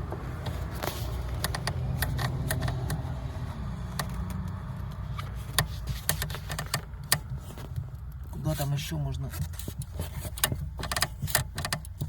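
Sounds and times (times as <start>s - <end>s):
clutch pedal clicks and knocks: 0.0s - 3.1s, 3.8s - 8.5s, 9.3s - 12.0s.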